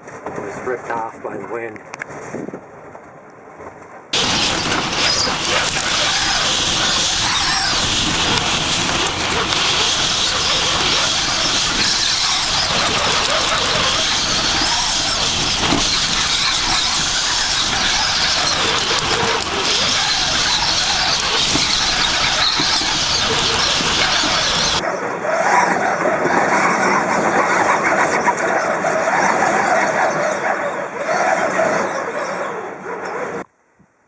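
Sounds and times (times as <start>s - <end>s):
high wavering wind whistle: 4.2s - 33.4s
strong wind blasting microphone: 4.2s - 33.4s.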